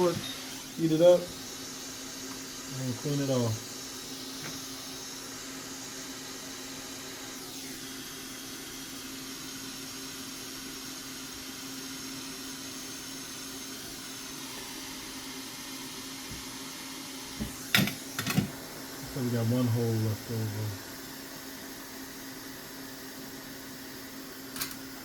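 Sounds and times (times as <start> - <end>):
hot air blower hissing: 0.0 - 25.0.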